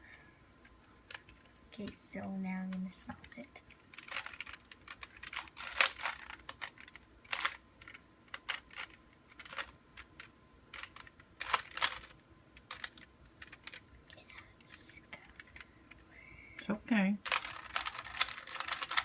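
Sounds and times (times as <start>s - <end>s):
puzzle cube clicking and clacking: 0.6s - 16.1s, 17.2s - 19.0s.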